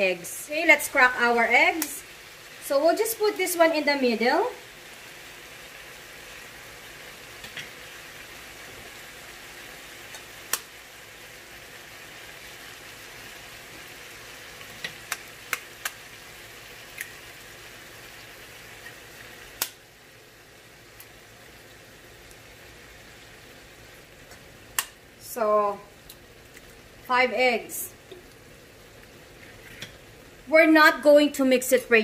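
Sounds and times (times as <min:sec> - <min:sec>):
eggplant sizzling in frying pan: 0:00.0 - 0:32.0.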